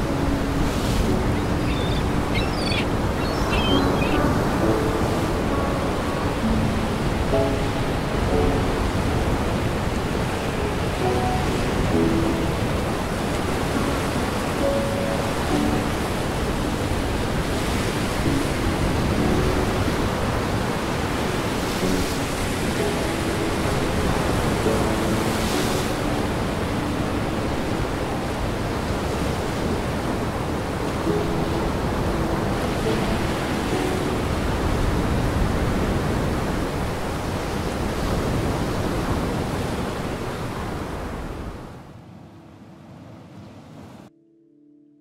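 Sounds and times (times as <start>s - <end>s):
wind: 0.0s - 44.1s.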